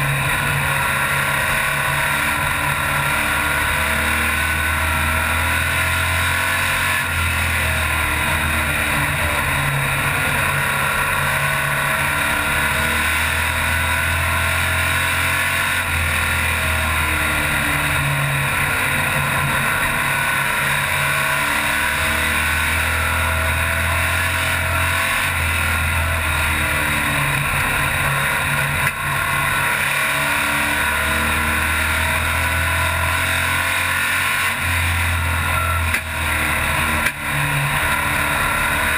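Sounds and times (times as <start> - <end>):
race car engine rising and falling: 0.0 - 38.9.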